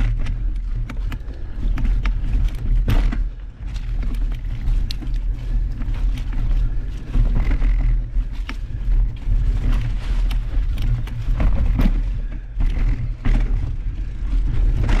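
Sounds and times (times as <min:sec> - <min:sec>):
bike clattering and rattling: 0:00.0 - 0:15.0
wind and tyre rumble: 0:00.0 - 0:15.0.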